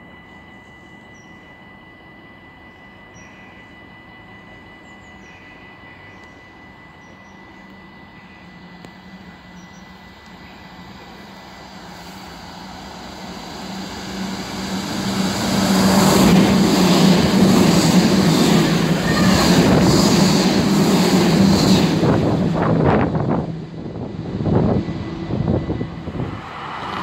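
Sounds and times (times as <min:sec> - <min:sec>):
train passing at speed: 0:00.0 - 0:27.0.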